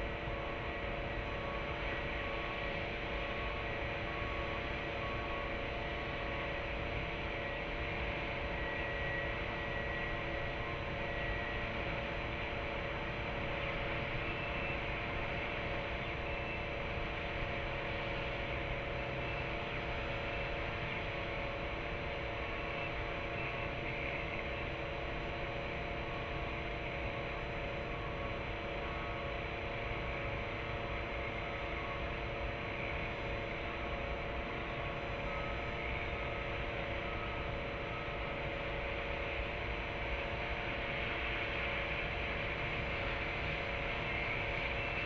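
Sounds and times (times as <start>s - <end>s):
background hum and hiss: 0.0s - 45.0s.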